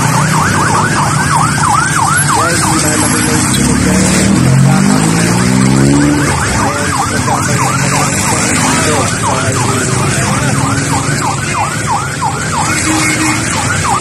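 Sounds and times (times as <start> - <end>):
vehicle engine rising in pitch: 0.0 - 12.6
siren yelping: 0.0 - 14.0.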